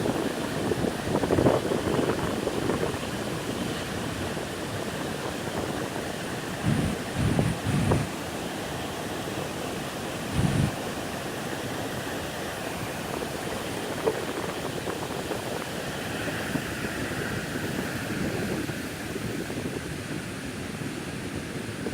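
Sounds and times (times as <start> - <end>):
wind on microphone: 0.0 - 8.3, 10.2 - 21.9
ocean surf: 0.0 - 21.9.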